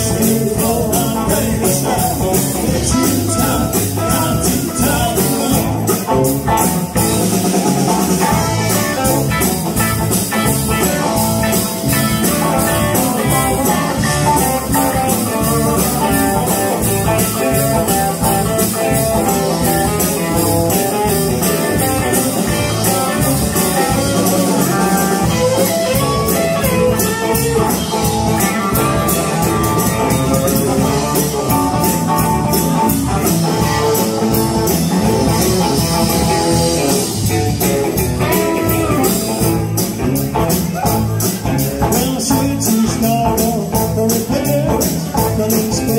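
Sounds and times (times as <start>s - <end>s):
bass guitar: 0.0s - 45.9s
drum kit: 0.0s - 45.9s
electric guitar: 0.0s - 45.9s.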